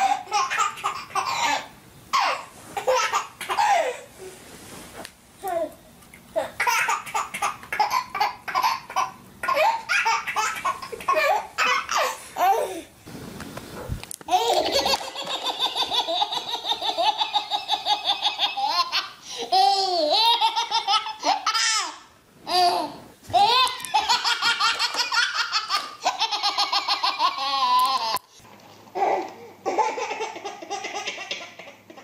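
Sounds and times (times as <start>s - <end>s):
babies laughing: 0.0s - 4.0s, 6.4s - 12.8s, 14.3s - 22.7s, 23.3s - 28.2s, 29.0s - 32.0s.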